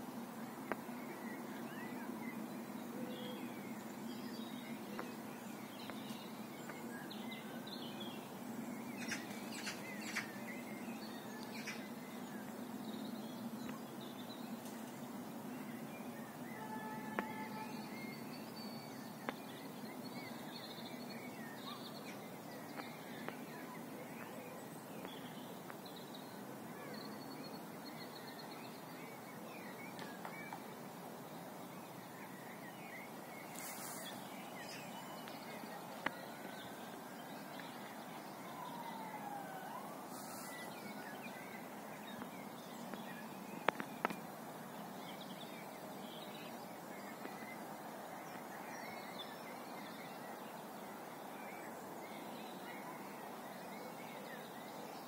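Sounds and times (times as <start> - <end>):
distant birds chirping: 0.1 - 55.0.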